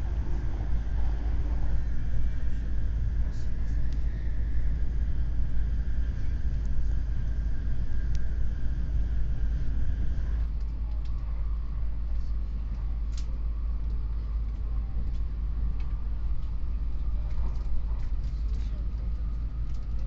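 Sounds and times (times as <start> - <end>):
train rumble inside passenger car: 0.0 - 20.0.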